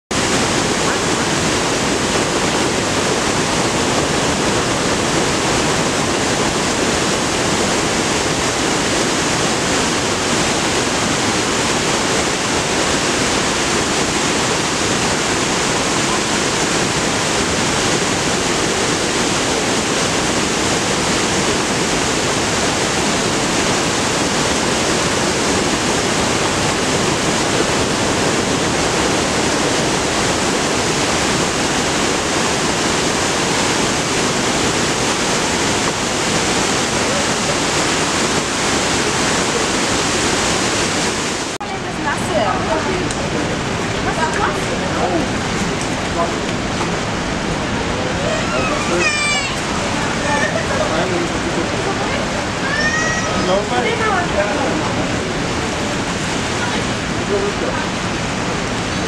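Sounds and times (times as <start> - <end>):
waterfall rushing over rocks: 0.1 - 59.0.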